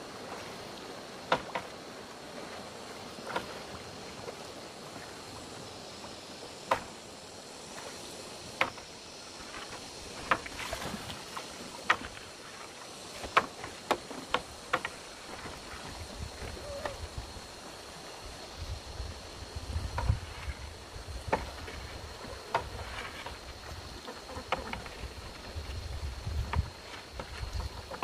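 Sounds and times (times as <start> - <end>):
river water running: 0.0 - 28.0.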